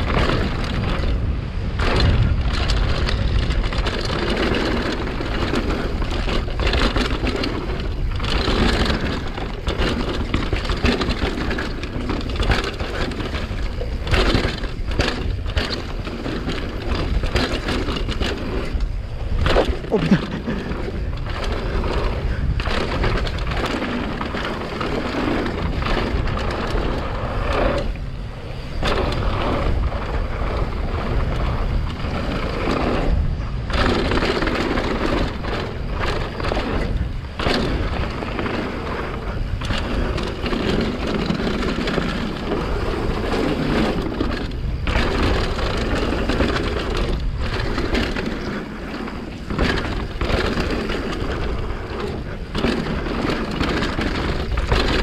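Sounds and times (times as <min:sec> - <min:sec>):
bike rattling and knocking: 0:00.0 - 0:55.0
tyres on dirt: 0:00.0 - 0:55.0
wind on microphone: 0:00.0 - 0:55.0.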